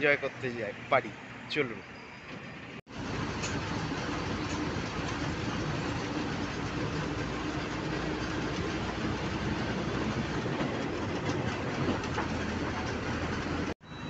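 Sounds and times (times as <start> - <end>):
road and engine noise in vehicle: 0.0 - 14.0.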